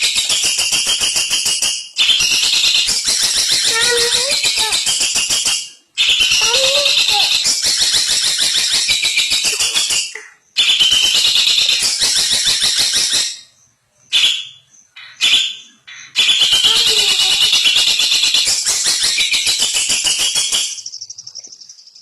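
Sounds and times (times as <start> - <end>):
bird harsh chattering song: 0.0 - 22.0.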